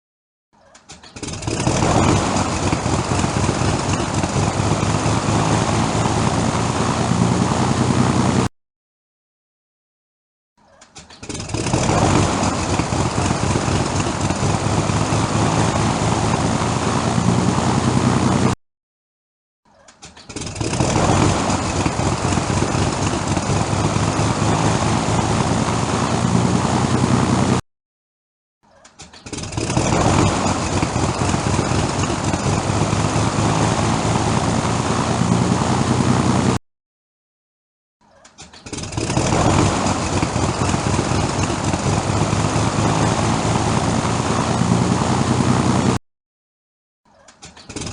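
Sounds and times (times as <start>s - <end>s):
propeller aircraft engine starting: 0.7s - 8.5s, 10.8s - 18.6s, 19.9s - 27.6s, 28.9s - 36.6s, 38.2s - 46.0s, 47.2s - 47.9s.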